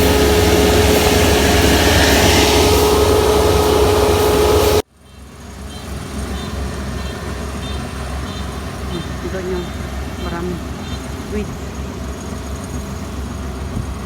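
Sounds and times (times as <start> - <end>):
combine harvester droning: 0.0 - 14.0
quieter engine running: 0.0 - 14.0.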